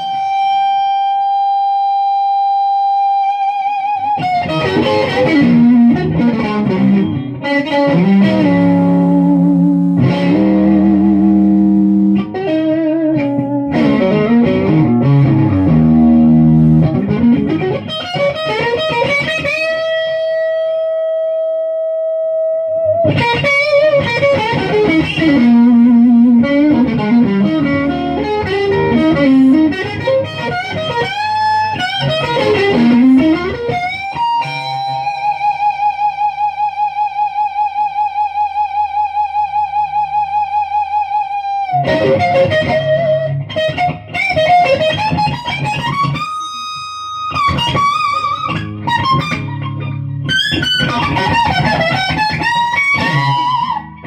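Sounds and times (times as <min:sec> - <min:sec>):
electric guitar runs and bends: 0:03.9 - 0:21.3, 0:22.5 - 0:54.0.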